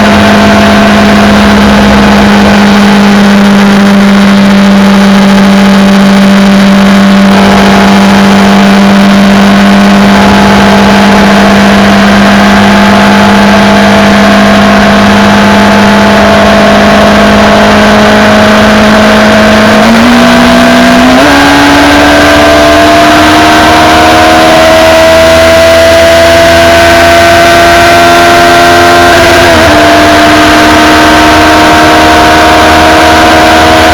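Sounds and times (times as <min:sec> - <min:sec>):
motorcycle engine at high speed: 0:00.0 - 0:33.9.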